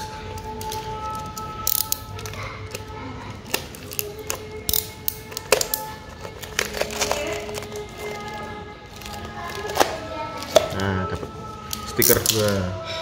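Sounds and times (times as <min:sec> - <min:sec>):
blade cutting packing tape: 0:00.0 - 0:12.6.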